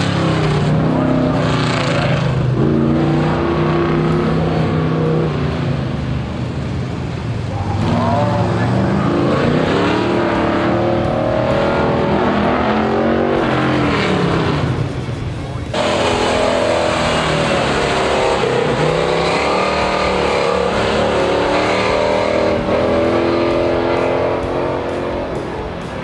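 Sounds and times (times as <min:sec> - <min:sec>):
pickup engine revving: 0:00.0 - 0:26.0.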